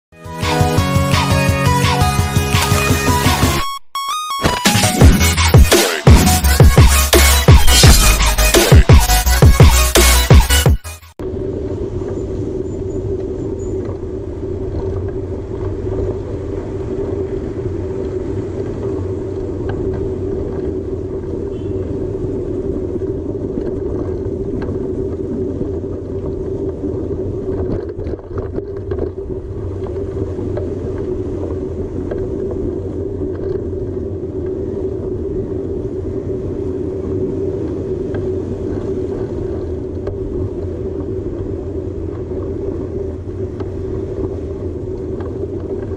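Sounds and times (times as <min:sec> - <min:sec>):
vehicle engine drone: 0:04.8 - 0:45.9
road rumble: 0:04.9 - 0:45.9.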